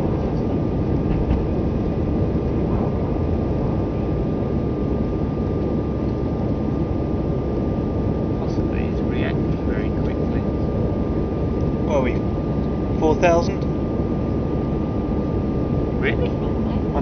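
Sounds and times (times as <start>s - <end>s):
jet engines roaring in cabin: 0.0s - 17.0s.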